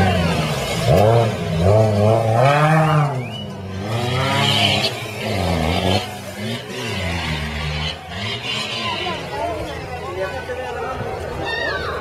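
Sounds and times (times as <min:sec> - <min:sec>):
racing car engine revving: 0:00.0 - 0:10.4.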